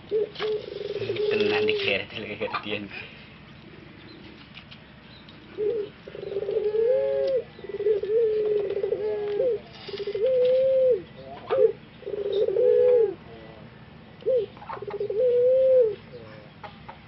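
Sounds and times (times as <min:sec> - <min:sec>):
dove cooing: 0:00.0 - 0:02.7, 0:03.5 - 0:04.7, 0:05.3 - 0:17.0.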